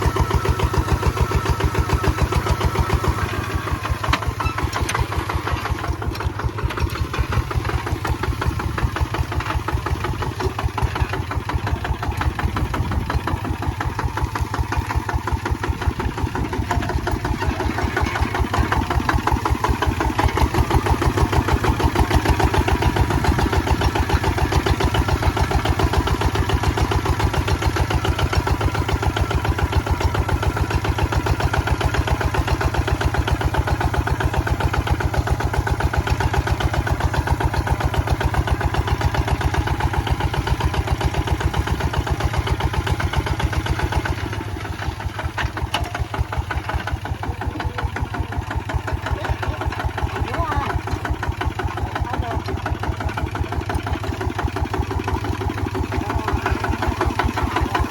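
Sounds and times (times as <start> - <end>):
diesel engine chugging: 0.0 - 57.9.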